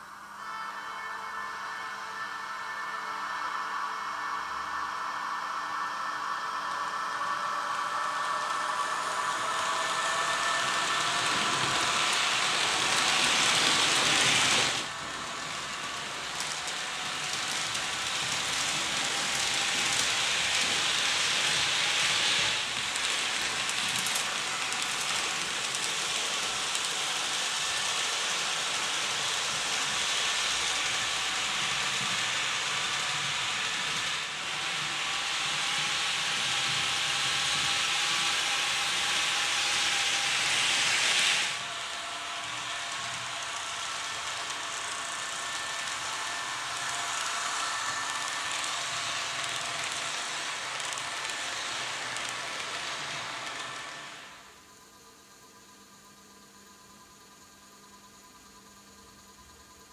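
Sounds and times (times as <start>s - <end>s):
model train running hiss: 0.0s - 55.6s
faint motor whine: 0.0s - 59.9s.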